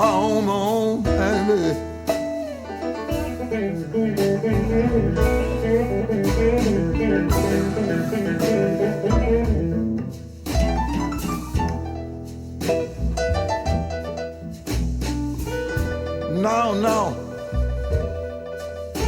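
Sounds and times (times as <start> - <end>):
blues music through speakers: 0.0 - 19.0.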